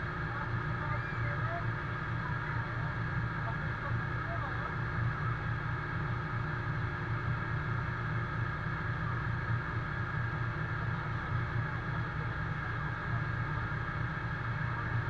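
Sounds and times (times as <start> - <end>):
fire engine pump and engine drone: 0.0 - 15.0.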